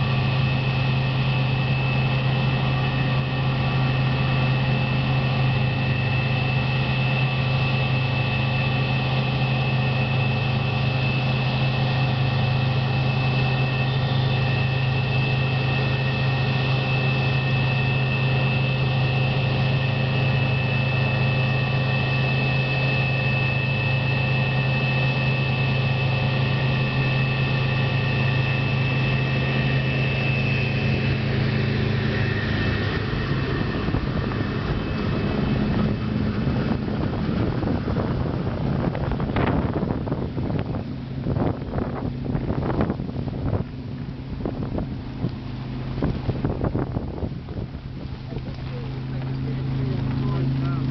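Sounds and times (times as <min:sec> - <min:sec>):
combine harvester engine drone: 0:00.0 - 0:50.9
high whine: 0:00.0 - 0:50.9.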